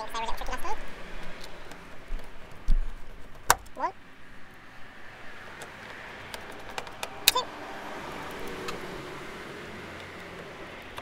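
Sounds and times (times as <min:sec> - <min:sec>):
faint background rumble: 0:00.0 - 0:11.0.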